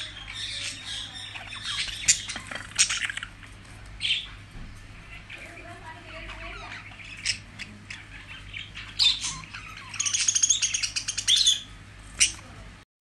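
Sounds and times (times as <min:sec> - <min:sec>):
budgerigars chirping and warbling: 0:00.0 - 0:12.6.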